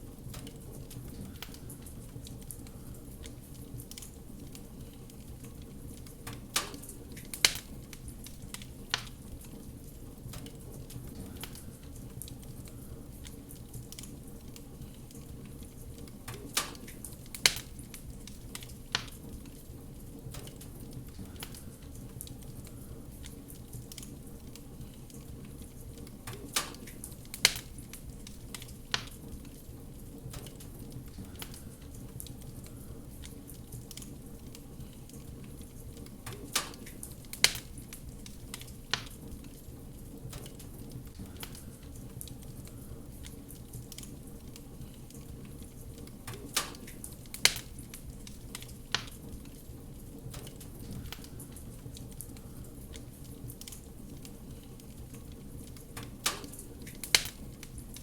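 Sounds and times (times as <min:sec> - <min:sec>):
wood fire crackling: 0:00.0 - 0:58.0
sharp pops from fire: 0:00.2 - 0:58.0.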